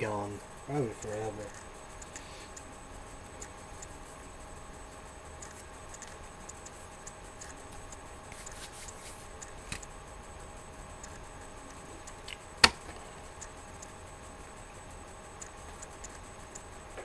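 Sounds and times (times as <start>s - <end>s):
faint clicks and ticks: 0.0s - 17.0s
low hum: 0.0s - 17.0s.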